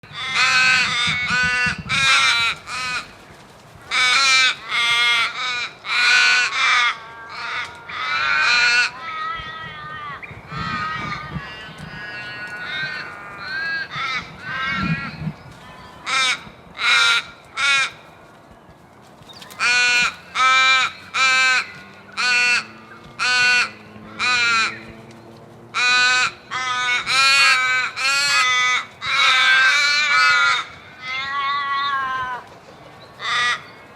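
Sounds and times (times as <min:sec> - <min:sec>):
crows cawing: 0:00.0 - 0:03.1, 0:03.9 - 0:15.2, 0:16.0 - 0:18.0, 0:19.4 - 0:24.9, 0:25.7 - 0:32.5, 0:33.2 - 0:33.7.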